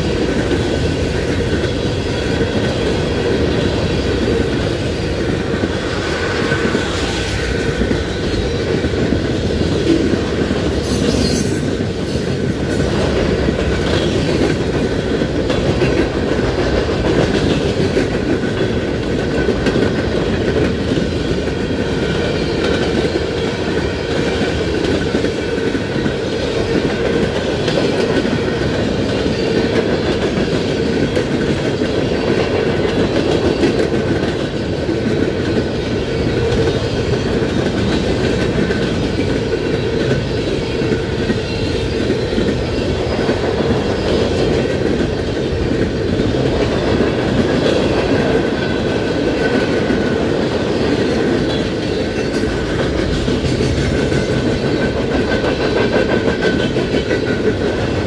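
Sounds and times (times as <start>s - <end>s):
train wheels rumbling and clattering: 0.0s - 58.0s.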